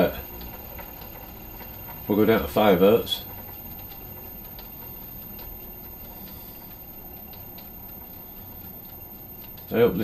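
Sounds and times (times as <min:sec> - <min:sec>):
lathe low mechanical rumble: 0:00.0 - 0:10.0
faint clicks: 0:00.1 - 0:09.8.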